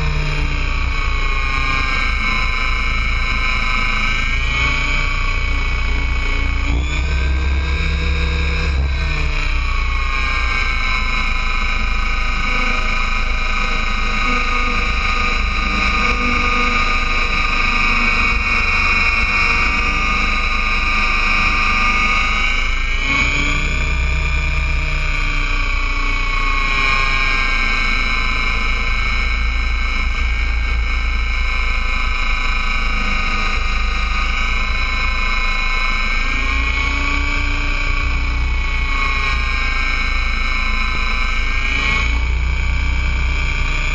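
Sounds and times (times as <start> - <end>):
rc helicopter rotor whine: 0.0 - 43.9.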